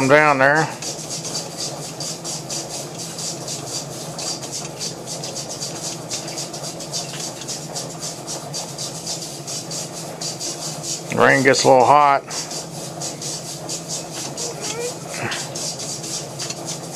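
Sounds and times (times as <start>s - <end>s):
steady machine hum: 0.0s - 16.9s.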